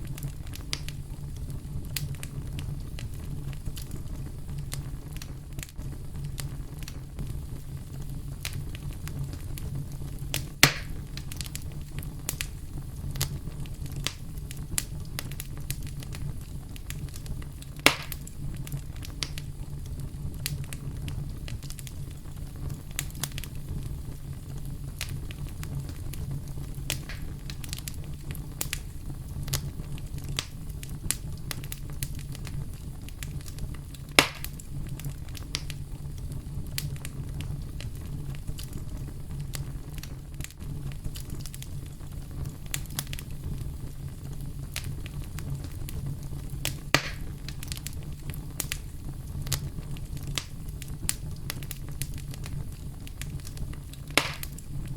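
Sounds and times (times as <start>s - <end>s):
campfire crackling and popping: 0.0s - 54.9s
low rumble of brown noise: 0.0s - 54.9s.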